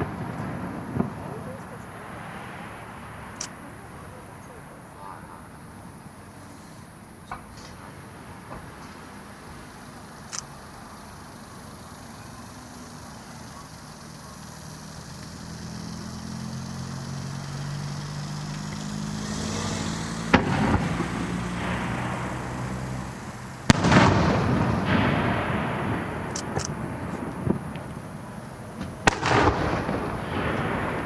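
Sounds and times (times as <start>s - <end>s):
firework shells bursting: 0.0s - 16.4s, 17.9s - 31.0s
firework crackling: 0.0s - 31.0s.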